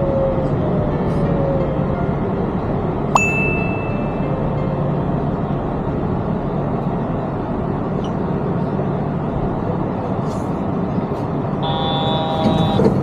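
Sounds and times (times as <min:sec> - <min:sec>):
train car rumble and hiss: 0:00.0 - 0:13.0.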